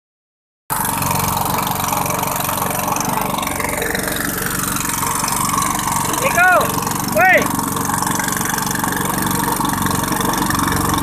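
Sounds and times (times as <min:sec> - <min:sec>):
boat engine running: 0:00.7 - 0:11.0.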